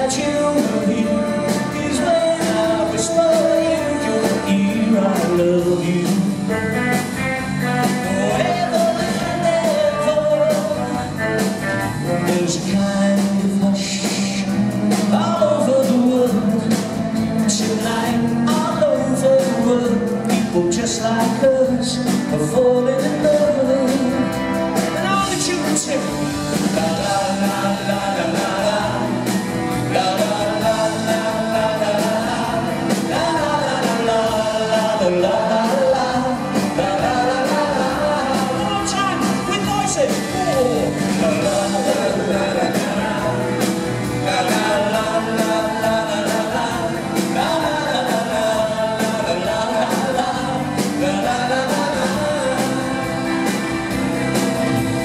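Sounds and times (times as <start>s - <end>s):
live pop-rock band playing: 0.0s - 55.0s
person singing: 0.0s - 55.0s.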